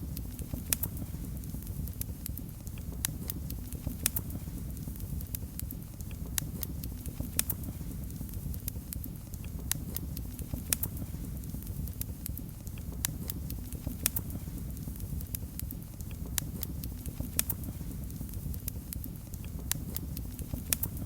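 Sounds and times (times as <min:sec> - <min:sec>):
fire rumbling: 0:00.0 - 0:21.0
wood fire crackling and popping: 0:00.0 - 0:21.0.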